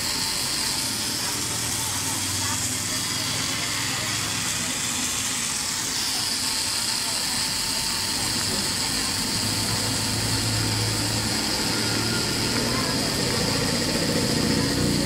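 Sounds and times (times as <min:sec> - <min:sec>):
tattoo machine buzzing: 0:00.0 - 0:15.0.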